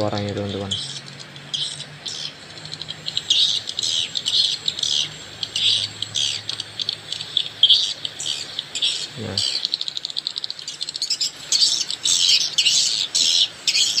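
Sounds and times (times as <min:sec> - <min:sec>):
recorded bird chirps over speakers: 0:00.0 - 0:14.0.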